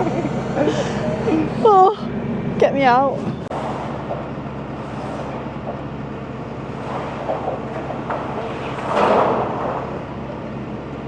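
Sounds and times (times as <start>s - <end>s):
diesel loader engine idling: 0.0s - 11.0s.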